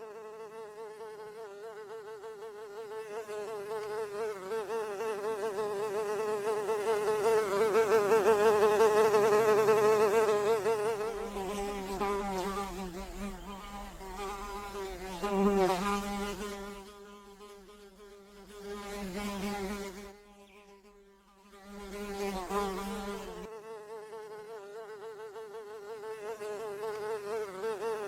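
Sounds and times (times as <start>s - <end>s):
fly buzzing in flight: 0.0s - 28.0s.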